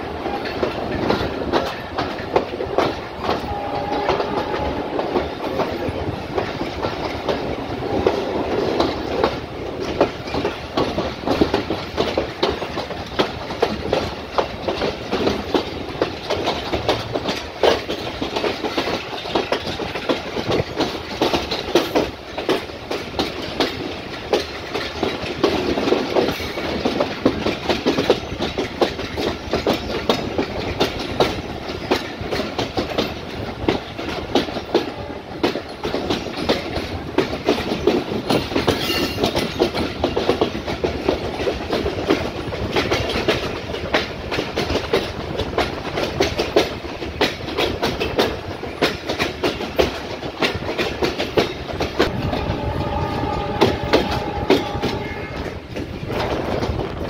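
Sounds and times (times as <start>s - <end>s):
train wheels clickety-clack: 0.0s - 57.0s.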